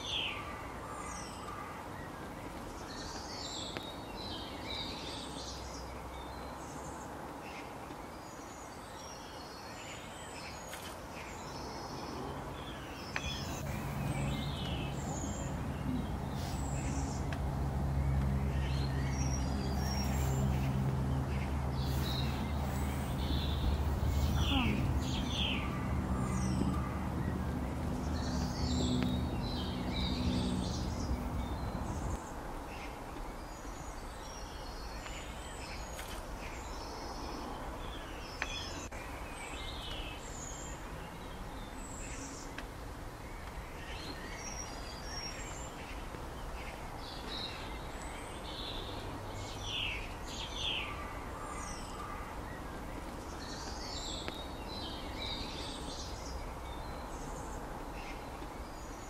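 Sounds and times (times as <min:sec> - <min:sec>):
birds chirping: 0:00.0 - 0:59.0
steady outdoor hiss: 0:00.0 - 0:59.0.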